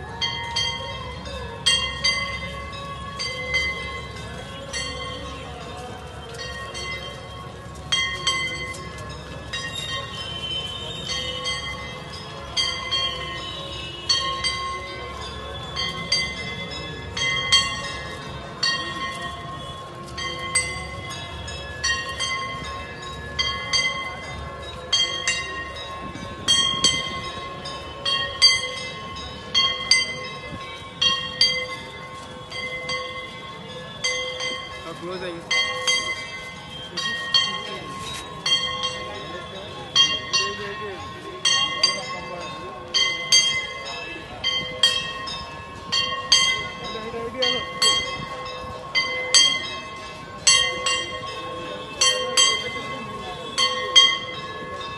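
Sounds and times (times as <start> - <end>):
metal bells struck: 0.2 - 54.9.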